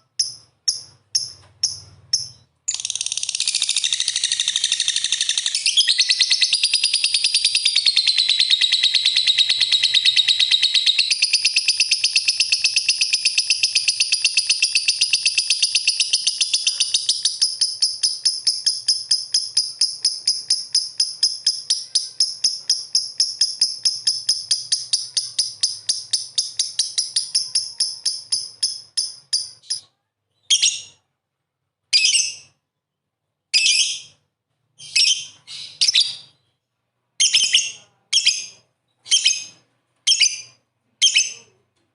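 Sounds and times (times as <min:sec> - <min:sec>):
lovebird chattering: 0:00.2 - 0:29.8, 0:37.2 - 0:41.5.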